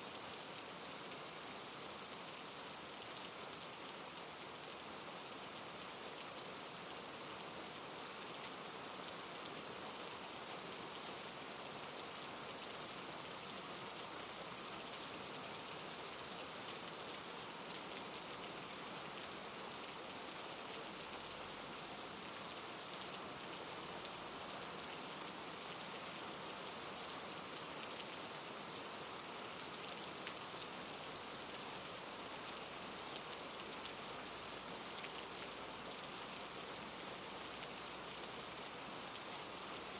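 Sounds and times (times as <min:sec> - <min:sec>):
soft rainfall hiss: 0:00.0 - 0:39.9.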